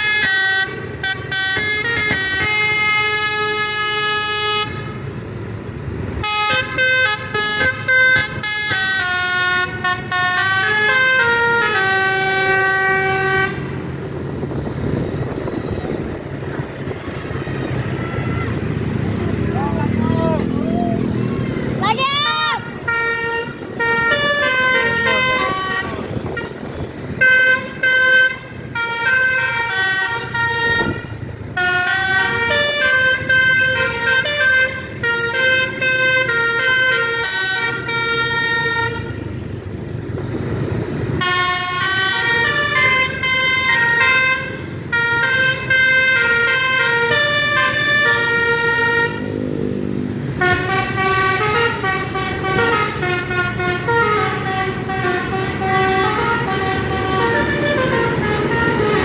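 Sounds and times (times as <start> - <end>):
bus horn playing melodic tunes: 0.0 - 5.3, 6.0 - 14.6, 20.0 - 39.6, 41.1 - 49.6, 50.2 - 59.0
bus engine running: 0.0 - 59.0.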